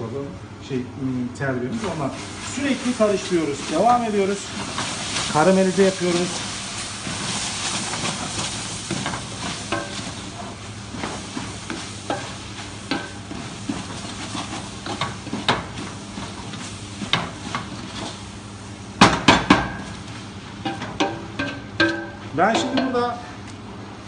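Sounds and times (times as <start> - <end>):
onions sizzling in a pot: 0.7 - 23.4.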